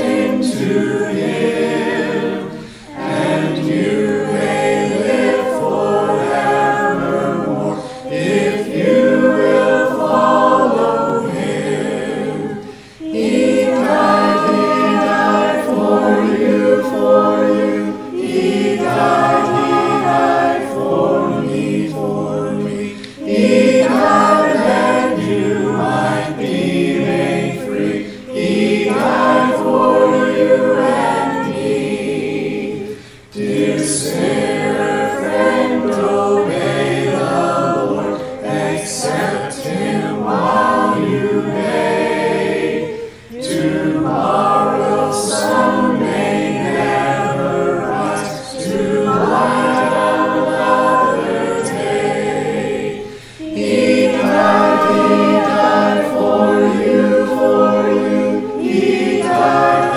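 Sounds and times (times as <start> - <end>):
mixed choir singing a hymn: 0.0 - 59.9.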